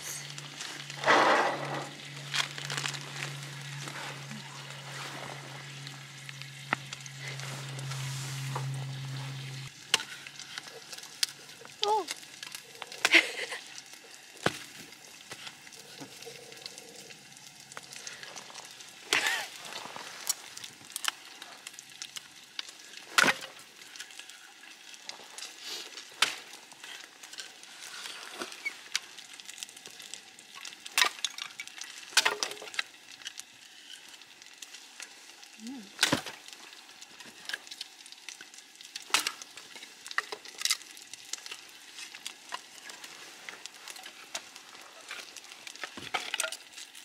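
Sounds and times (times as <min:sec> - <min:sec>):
faint continuous crackle: 0:00.0 - 0:47.0.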